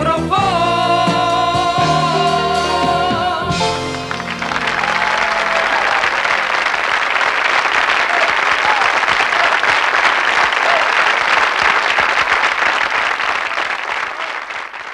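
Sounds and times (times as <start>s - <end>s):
audience applauding: 2.6s - 14.9s.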